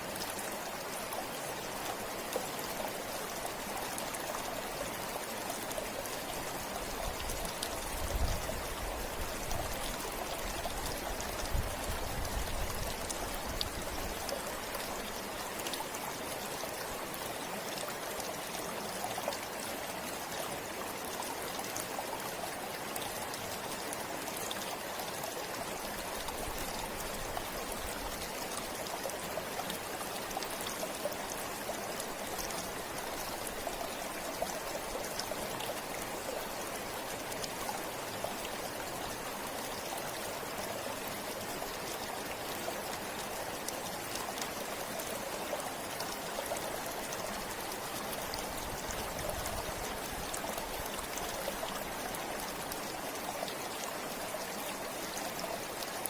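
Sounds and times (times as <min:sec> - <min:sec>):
river water flowing over stones: 0:00.0 - 0:56.0.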